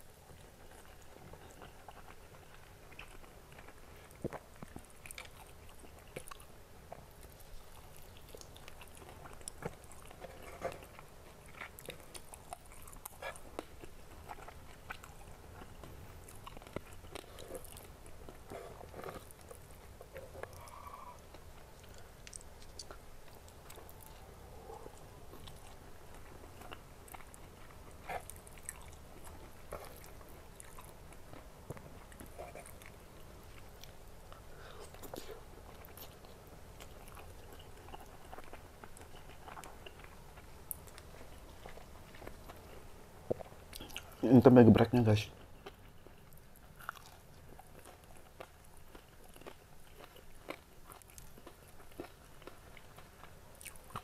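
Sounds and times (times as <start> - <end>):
chewing crispy fried chicken: 0.0 - 54.0.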